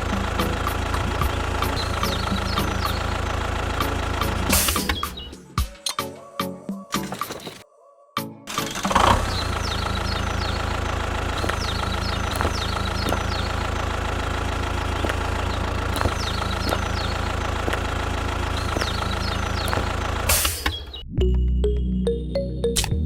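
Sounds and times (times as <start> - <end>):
small engine idling: 0.0 - 6.0, 8.5 - 21.0.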